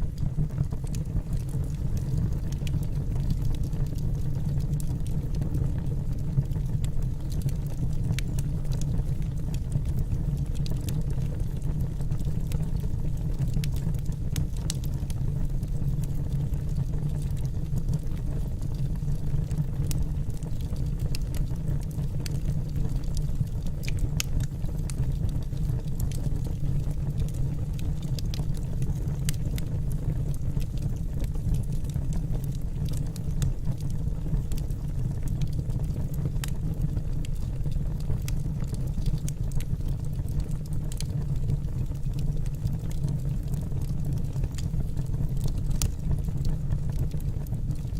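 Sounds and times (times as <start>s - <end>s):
burning logs crackling and popping: 0.0s - 47.9s
low rumble of fire: 0.0s - 47.9s.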